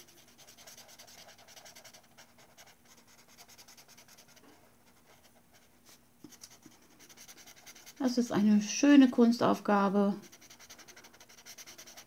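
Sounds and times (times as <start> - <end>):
marker scratching on paper: 0.0 - 8.2, 10.2 - 12.0.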